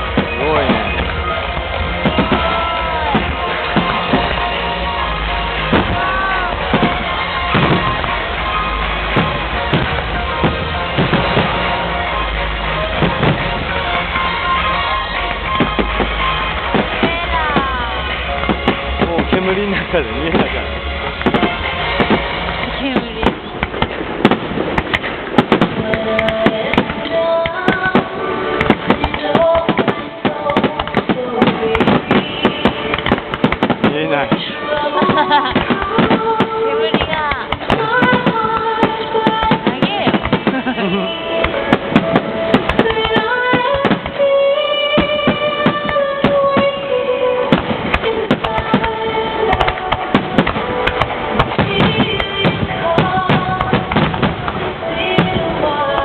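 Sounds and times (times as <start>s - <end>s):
firework bangs and crackles: 0.0s - 56.0s
music: 0.0s - 56.0s.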